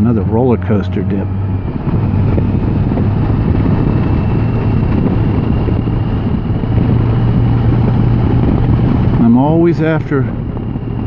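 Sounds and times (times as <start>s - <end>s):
motorcycle engine humming: 0.0s - 11.0s
road noise: 0.0s - 11.0s
wind noise: 0.0s - 11.0s.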